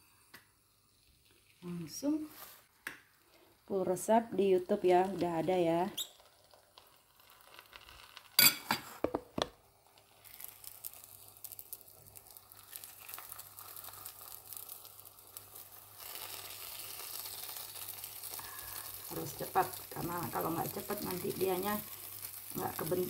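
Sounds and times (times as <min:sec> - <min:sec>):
oil sizzling in a frying pan: 0:00.0 - 0:23.0.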